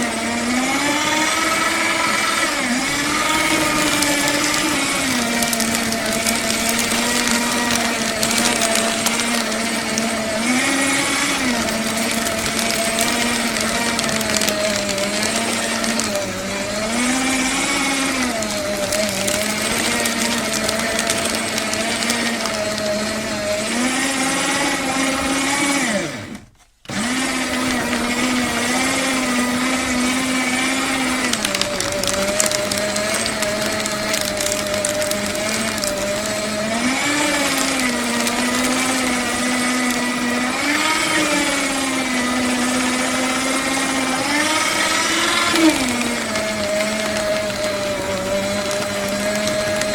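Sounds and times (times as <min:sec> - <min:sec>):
paper shredder motor running: 0:00.0 - 0:49.9
paper being shredded crackle: 0:00.1 - 0:49.9.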